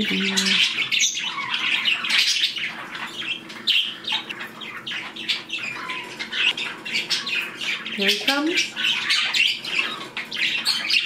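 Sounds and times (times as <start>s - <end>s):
budgies chattering: 0.0s - 11.0s.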